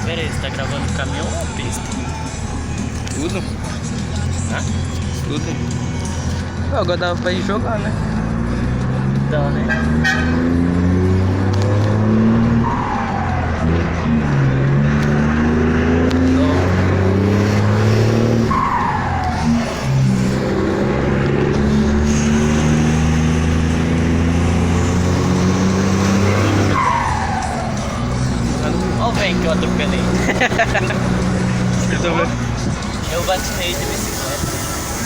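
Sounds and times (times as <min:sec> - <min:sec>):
diesel truck engine under load: 0:00.0 - 0:35.0.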